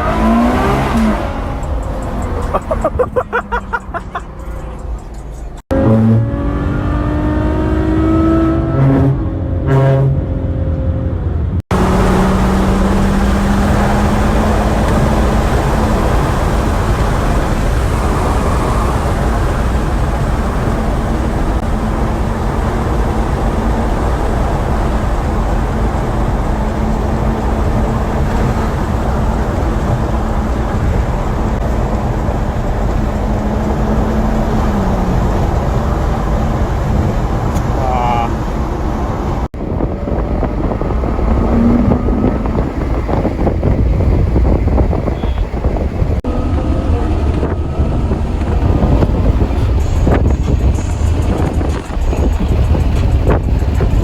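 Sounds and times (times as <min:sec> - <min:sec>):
car engine accelerating: 0:00.0 - 0:54.0
road and tyre noise: 0:00.0 - 0:54.0.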